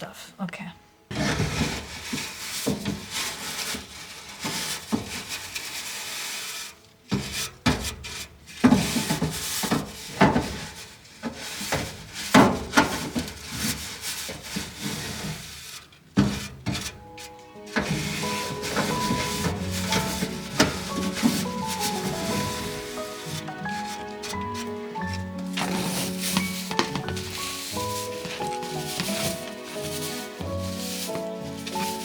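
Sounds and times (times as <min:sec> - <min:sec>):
scraping and rubbing in a duct: 0:01.1 - 0:32.0.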